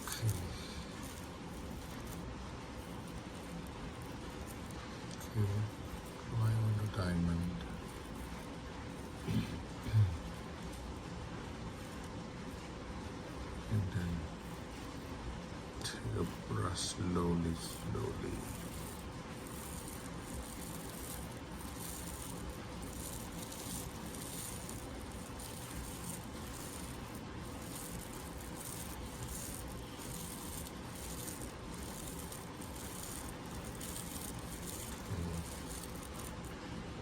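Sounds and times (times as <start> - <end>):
brush scrubbing: 0.0 - 15.3, 15.9 - 36.6.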